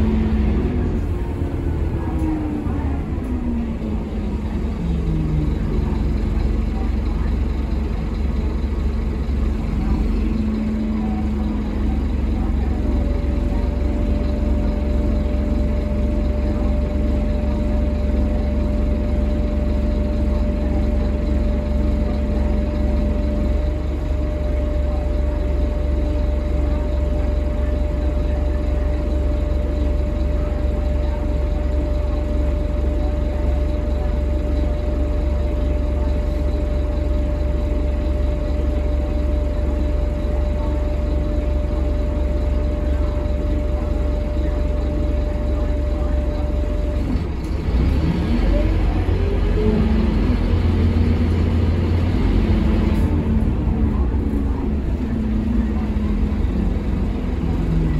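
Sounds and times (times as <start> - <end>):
bus diesel engine idling: 0.0 - 57.9.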